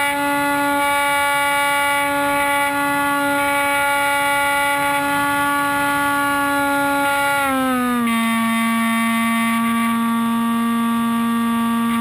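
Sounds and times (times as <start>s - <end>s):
model plane motor whine: 0.0s - 12.0s.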